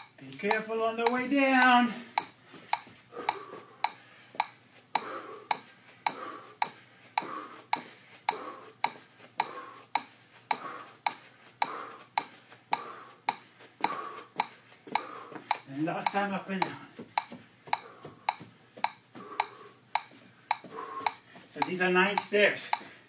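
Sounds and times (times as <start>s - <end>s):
metronome ticking: 0.0s - 23.0s
soft background noise: 0.0s - 23.0s.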